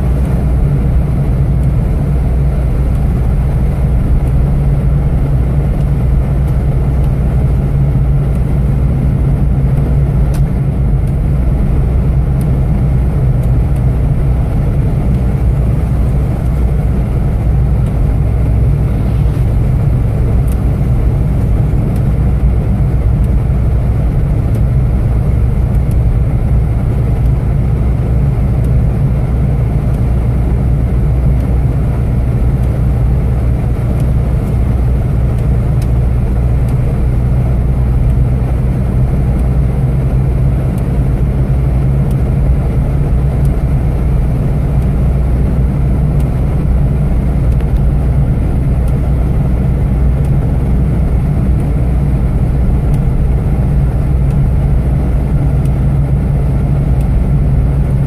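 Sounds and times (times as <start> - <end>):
car engine hum: 0.0 - 58.0
tyre and road noise: 0.0 - 58.0.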